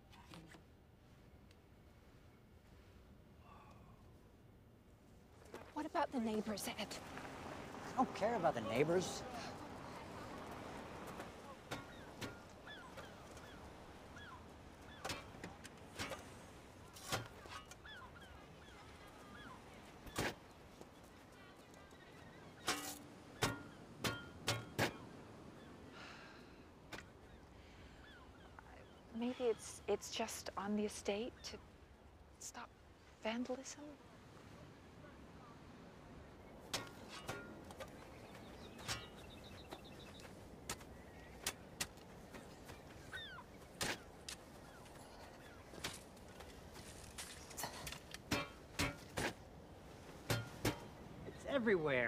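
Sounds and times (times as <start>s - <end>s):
birds calling: 6.1s - 32.6s, 36.2s - 52.0s.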